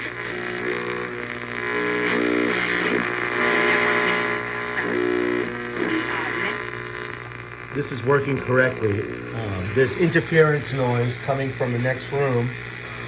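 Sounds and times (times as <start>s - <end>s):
hum and hiss of interference: 0.0s - 13.0s
music from radio speaker: 0.0s - 13.0s.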